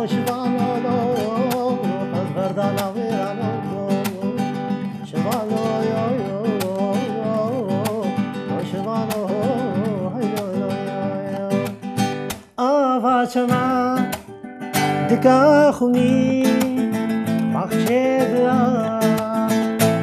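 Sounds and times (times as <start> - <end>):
acoustic guitar strummed and plucked: 0.0 - 20.0
man singing: 0.0 - 20.0.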